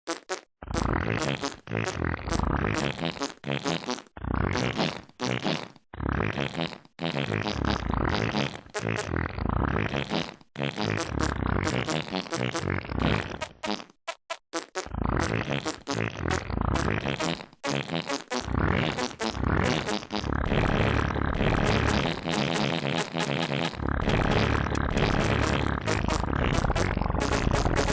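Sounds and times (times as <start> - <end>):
fart sounds played as melody: 0.0 - 9.2, 9.8 - 27.9.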